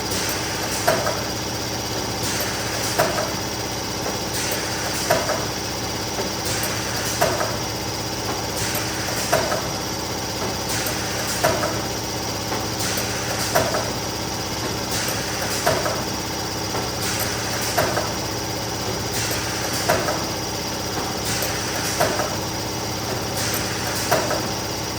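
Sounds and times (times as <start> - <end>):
laminating machine motor hum: 0.0 - 24.9.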